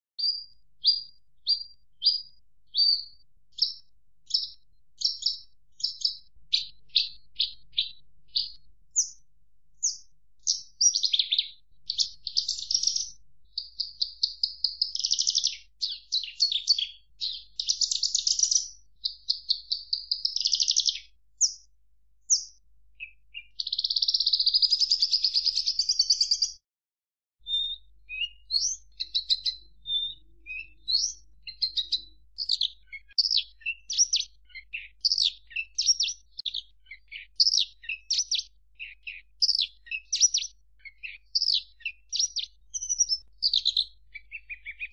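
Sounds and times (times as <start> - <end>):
bird singing trills: 0.2 - 9.2, 9.8 - 21.7, 22.3 - 26.6, 27.4 - 44.9.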